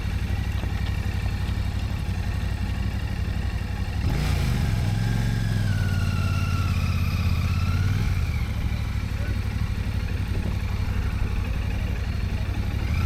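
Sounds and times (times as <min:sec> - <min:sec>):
motorcycle engine revving: 0:00.0 - 0:13.0
motorcycle engines idling: 0:00.0 - 0:13.0.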